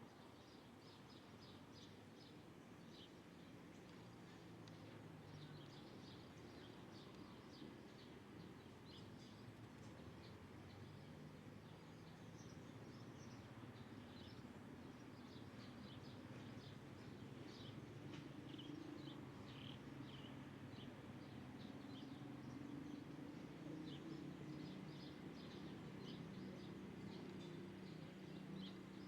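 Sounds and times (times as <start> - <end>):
small birds chirping: 0.1 - 29.0.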